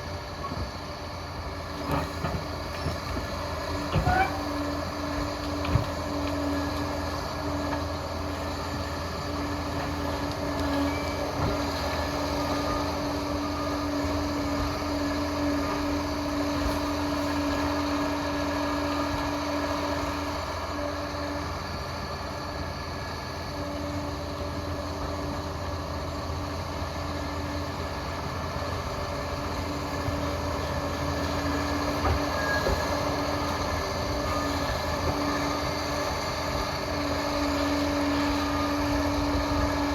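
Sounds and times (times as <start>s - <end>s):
constant whine: 0.0s - 39.9s
dozer diesel engine running: 0.0s - 39.9s.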